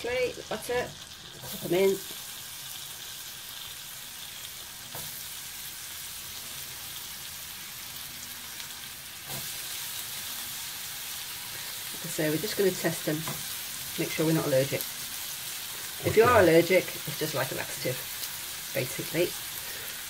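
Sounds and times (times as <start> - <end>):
mushrooms sizzling in butter: 0.0 - 20.0.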